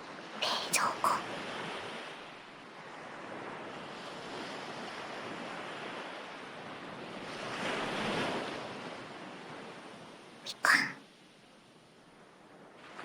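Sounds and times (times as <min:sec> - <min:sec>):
ocean waves washing on shore: 0:00.0 - 0:11.0.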